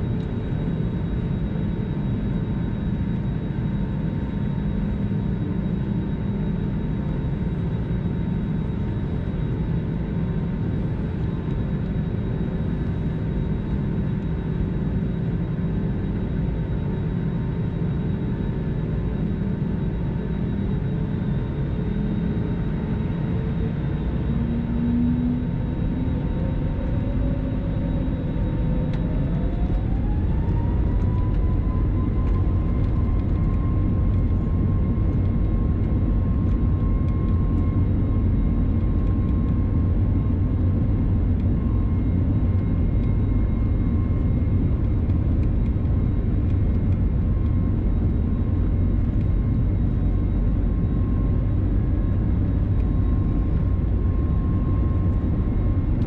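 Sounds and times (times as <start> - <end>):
jet engine whine: 0.0 - 56.0
low rumble of plane rolling: 0.0 - 56.0.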